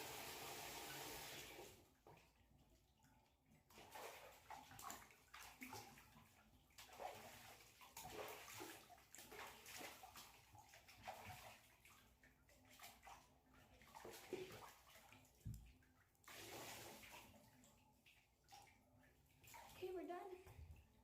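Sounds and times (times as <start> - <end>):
water splashing in a bathtub: 0.0 - 21.0.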